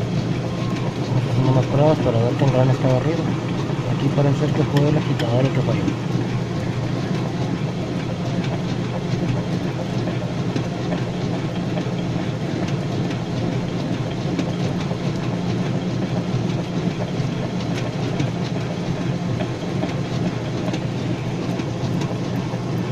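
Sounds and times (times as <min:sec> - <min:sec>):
motor hum: 0:00.0 - 0:22.9.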